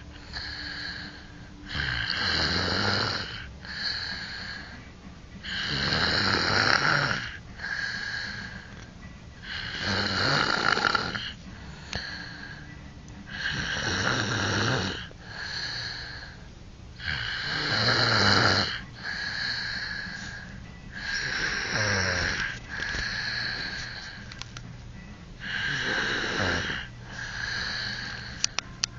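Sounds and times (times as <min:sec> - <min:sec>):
person snoring heavily: 0:00.0 - 0:04.8, 0:05.4 - 0:08.7, 0:09.4 - 0:12.7, 0:13.3 - 0:16.4, 0:17.0 - 0:24.3, 0:25.4 - 0:28.6.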